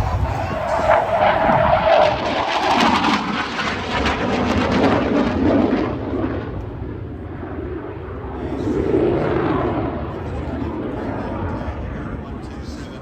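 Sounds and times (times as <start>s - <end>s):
jet passing by: 0.0s - 13.0s.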